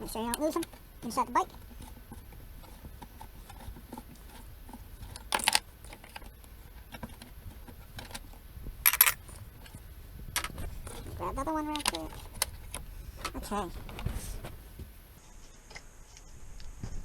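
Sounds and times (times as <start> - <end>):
loose bolts jingling and rattling: 0.0 - 14.8.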